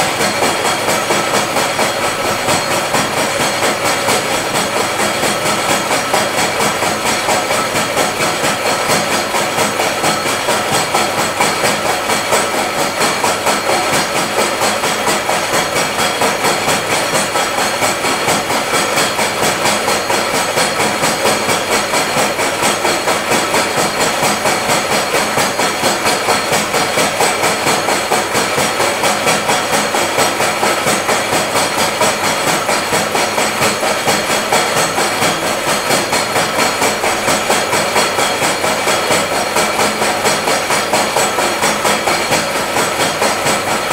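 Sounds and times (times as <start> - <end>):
milling machine cutting metal: 0.0 - 43.9.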